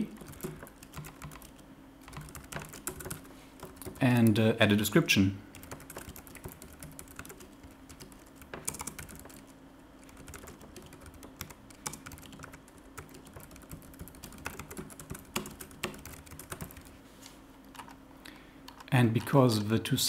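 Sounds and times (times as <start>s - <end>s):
keyboard typing: 0.0s - 4.4s, 5.5s - 17.0s, 17.7s - 18.0s, 18.7s - 19.5s
faint steady hum: 0.0s - 20.0s.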